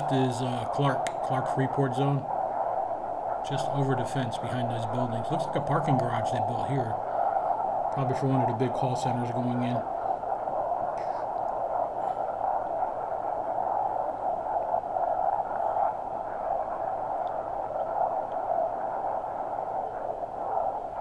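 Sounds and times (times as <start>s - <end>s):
wind rushing: 0.0s - 21.0s.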